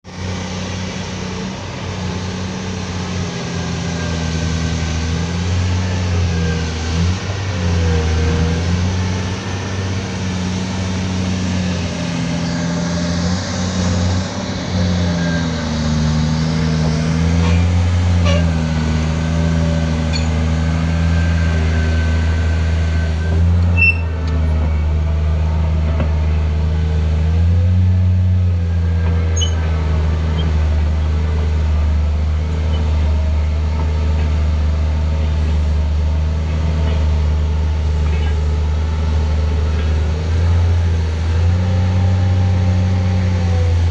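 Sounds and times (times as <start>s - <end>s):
excavator diesel engine under load: 0.0s - 43.9s.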